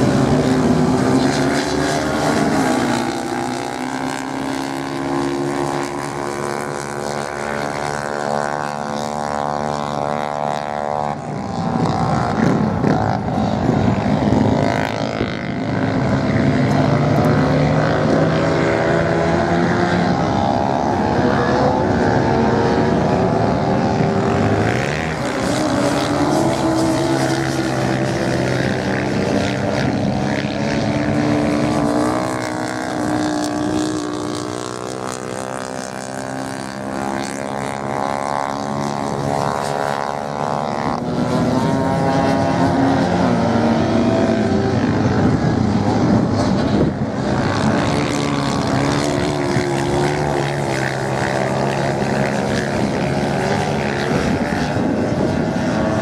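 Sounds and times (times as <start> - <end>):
motorcycle engines racing: 0.0 - 56.0.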